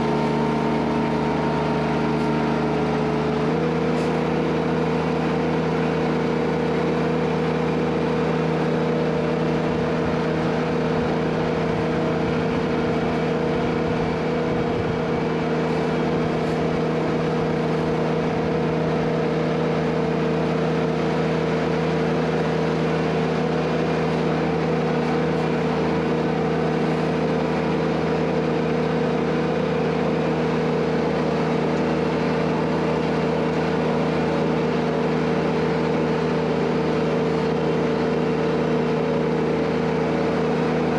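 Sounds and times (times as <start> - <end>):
tractor engine running steadily: 0.0 - 40.9.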